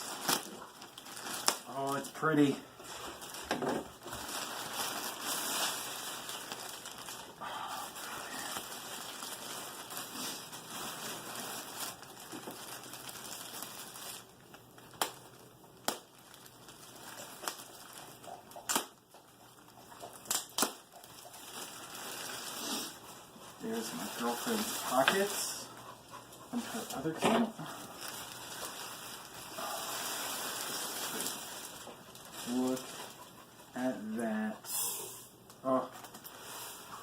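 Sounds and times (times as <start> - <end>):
packaging rustling and crinkling: 0.0 - 34.4, 35.4 - 37.0.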